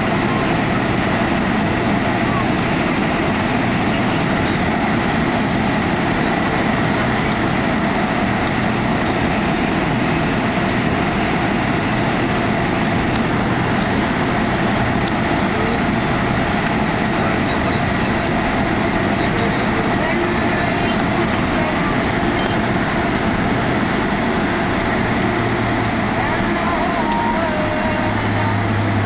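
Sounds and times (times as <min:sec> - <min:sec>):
airplane cabin engine rush: 0:00.0 - 0:29.0.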